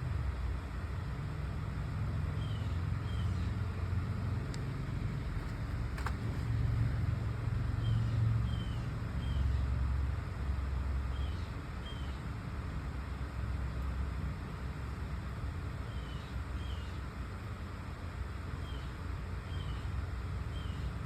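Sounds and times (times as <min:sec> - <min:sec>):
low motor rumble: 0:00.0 - 0:21.0.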